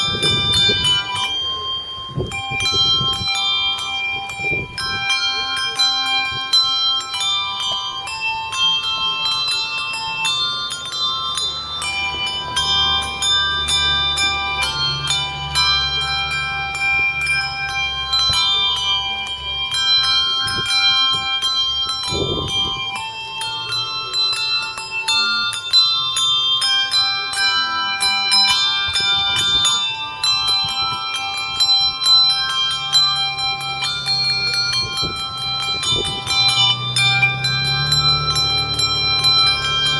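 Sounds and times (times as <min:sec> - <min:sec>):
handbell tune: 0:00.0 - 0:39.9.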